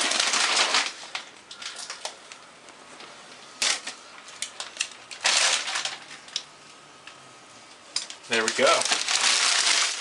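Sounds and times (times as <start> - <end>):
paper wrap crinkling: 0.0 - 6.4, 8.0 - 10.0.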